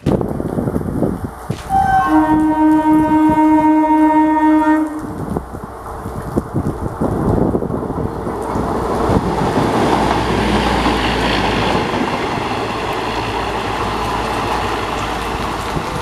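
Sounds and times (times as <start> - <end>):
train passing at speed: 0.3 - 16.0.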